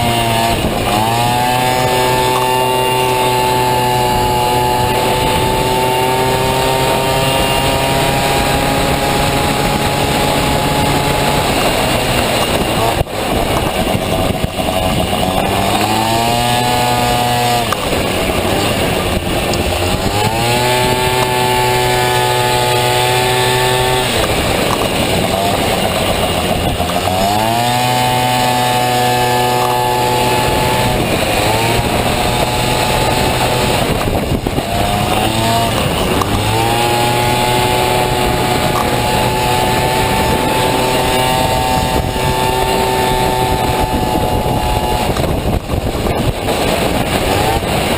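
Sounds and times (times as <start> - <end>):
scooter engine revving: 0.0 - 47.9.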